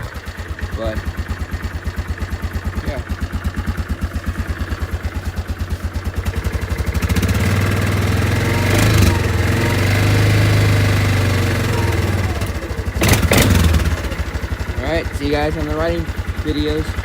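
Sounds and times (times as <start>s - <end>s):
four-stroke engine idling: 0.0s - 17.0s.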